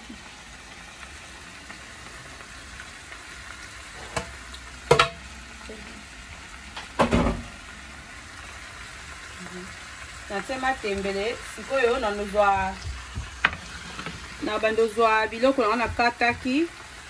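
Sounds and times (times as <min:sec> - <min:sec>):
leaves sizzling in oil: 0:00.0 - 0:17.0.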